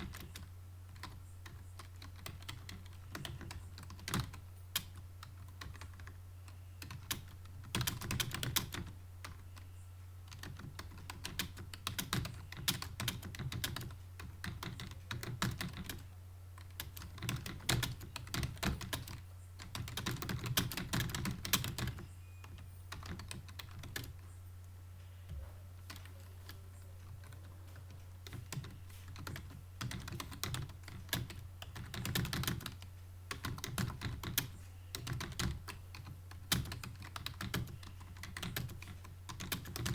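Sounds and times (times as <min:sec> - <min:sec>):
fast keyboard typing: 0:00.0 - 0:24.2, 0:25.8 - 0:39.9
steady low hum: 0:00.0 - 0:39.9.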